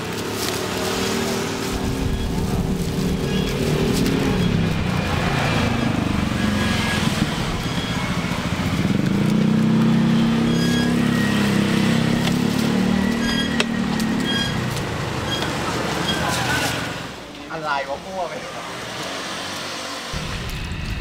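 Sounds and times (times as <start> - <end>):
vehicle engine running: 0.0 - 17.3, 20.1 - 21.0.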